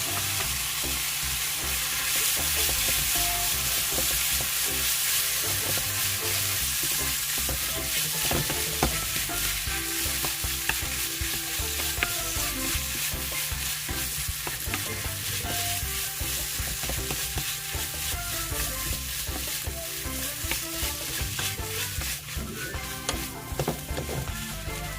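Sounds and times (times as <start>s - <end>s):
food sizzling in hot oil: 0.0s - 24.9s.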